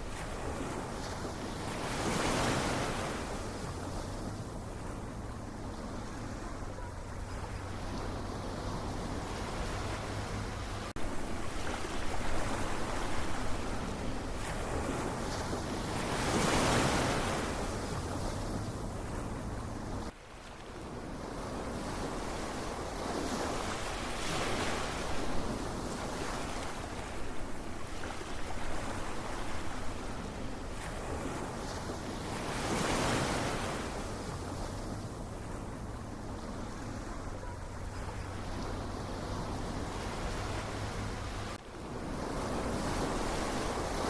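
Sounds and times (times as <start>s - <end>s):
ocean waves washing ashore: 0.0s - 44.0s.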